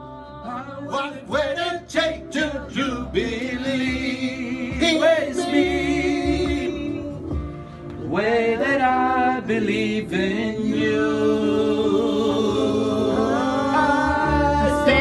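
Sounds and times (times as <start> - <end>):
group singing: 0.0 - 15.0
man's voice leading singing: 0.4 - 7.4, 8.0 - 15.0.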